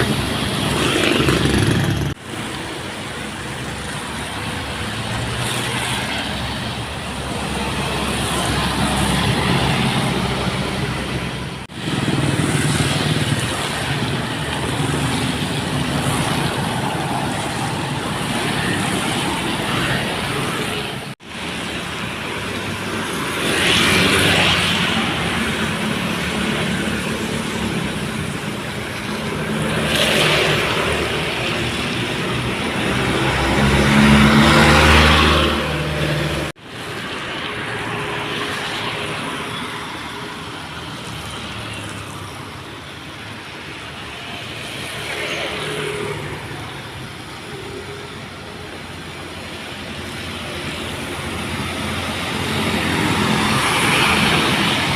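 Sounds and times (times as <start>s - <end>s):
tyre noise on wet road: 0.0s - 54.9s.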